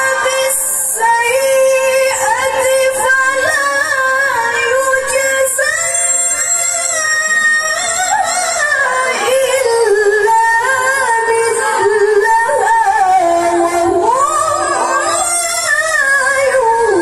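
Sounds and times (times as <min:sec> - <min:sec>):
woman chanting melodically: 0:00.0 - 0:17.0.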